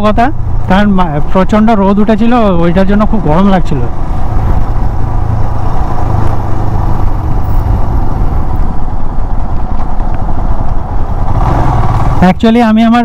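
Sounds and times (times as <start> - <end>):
motorcycle engine rumble: 0.0 - 13.0
road rush: 0.0 - 13.0.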